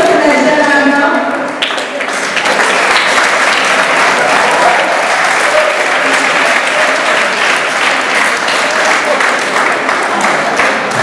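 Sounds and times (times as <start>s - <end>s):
voices among clapping: 0.4s - 11.0s
audience applauding: 1.5s - 11.0s.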